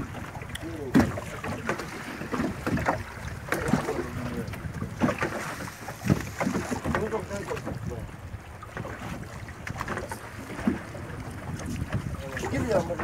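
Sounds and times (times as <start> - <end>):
waves slapping against boat hull: 0.0 - 13.0.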